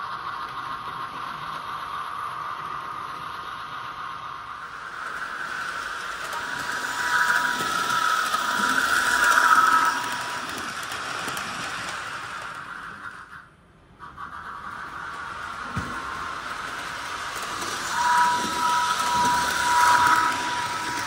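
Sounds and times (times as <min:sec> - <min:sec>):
model train running past: 0:00.0 - 0:21.0.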